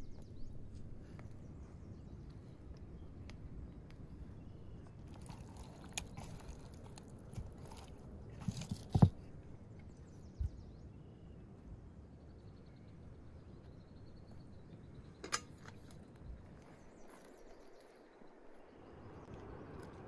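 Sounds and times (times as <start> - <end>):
faint bird chirps: 0.0 - 6.9, 9.2 - 20.0.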